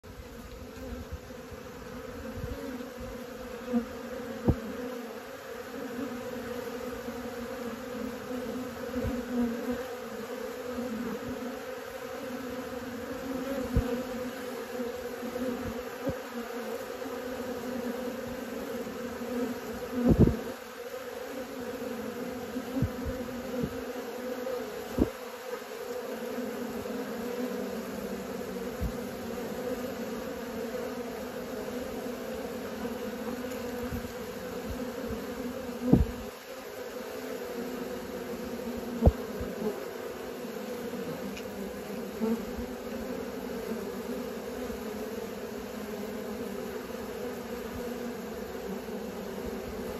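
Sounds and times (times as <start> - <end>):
honeybees buzzing: 0.0 - 49.9.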